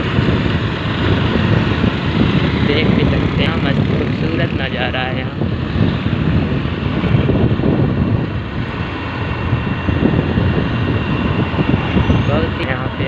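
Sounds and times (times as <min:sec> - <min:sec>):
road and engine noise: 0:00.0 - 0:13.0
wind rush over microphone: 0:00.0 - 0:13.0.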